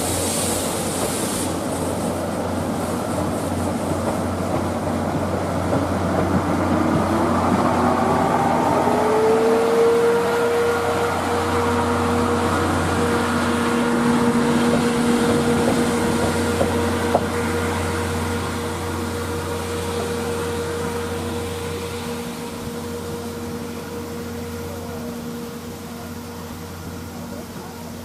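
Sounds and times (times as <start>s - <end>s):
passenger train running past: 0.0s - 28.0s.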